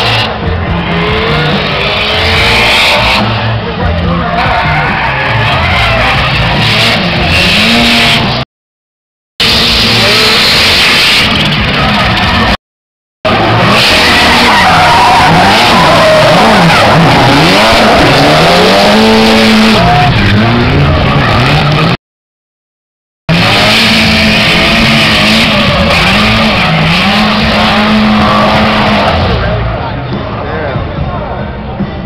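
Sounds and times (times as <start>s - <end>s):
car engines revving: 0.0s - 8.4s, 9.4s - 12.6s, 13.3s - 22.0s, 23.3s - 32.0s.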